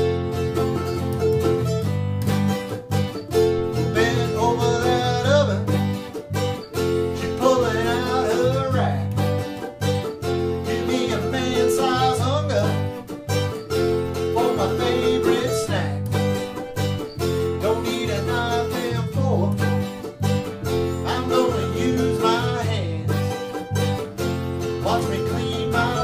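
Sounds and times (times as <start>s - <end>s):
acoustic guitars strumming country tune: 0.0s - 26.0s.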